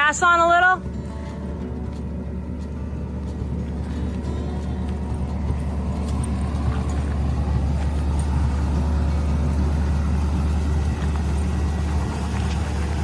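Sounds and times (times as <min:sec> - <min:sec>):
car engine deep rumble: 0:00.0 - 0:13.0.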